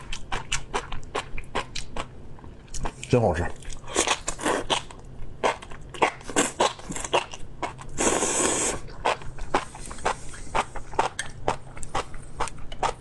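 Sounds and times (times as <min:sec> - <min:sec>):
person chewing with wet crunching: 0:00.0 - 0:13.0.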